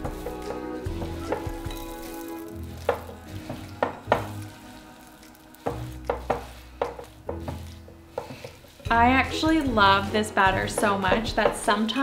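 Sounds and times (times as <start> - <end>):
spoon scraping and squelching dough: 0.0 - 12.0.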